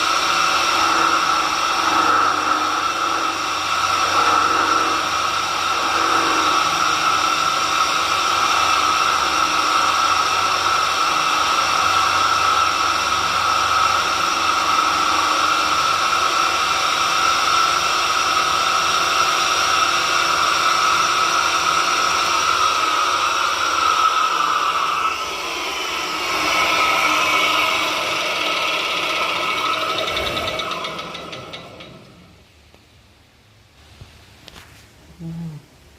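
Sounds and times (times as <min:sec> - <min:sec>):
electric drill motor whining: 0:00.0 - 0:32.4.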